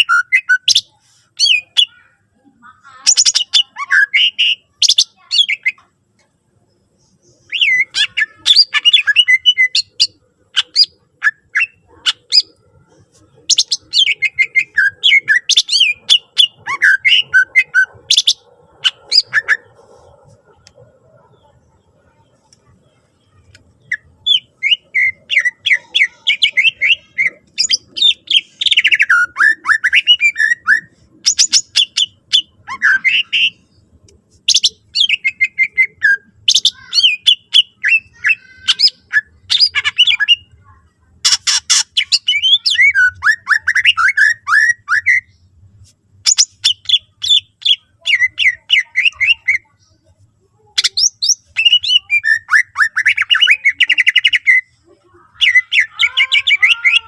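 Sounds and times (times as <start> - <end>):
bird singing chirps and trills: 0.0 - 45.6, 46.2 - 57.0.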